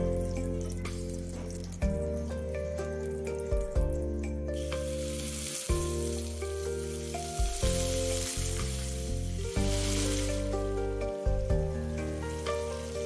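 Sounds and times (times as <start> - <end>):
background music: 0.0 - 13.0
chicken sizzling in hot oil: 0.0 - 13.0.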